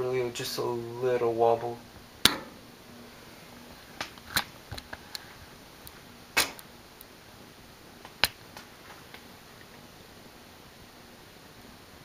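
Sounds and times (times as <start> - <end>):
ceiling fan hum: 0.0 - 12.0.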